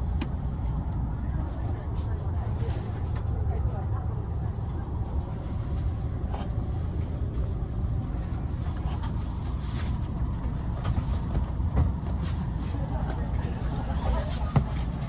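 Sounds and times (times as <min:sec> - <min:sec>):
vehicle cabin rumble: 0:00.0 - 0:15.0.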